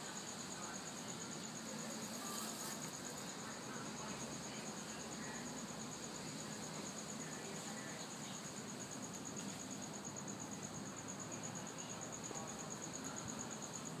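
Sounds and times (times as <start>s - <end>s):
insect trilling: 0.2s - 14.0s.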